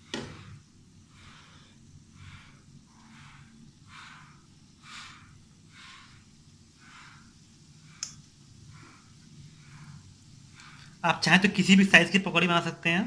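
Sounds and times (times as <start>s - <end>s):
batter sizzling in hot oil: 0.0s - 12.8s.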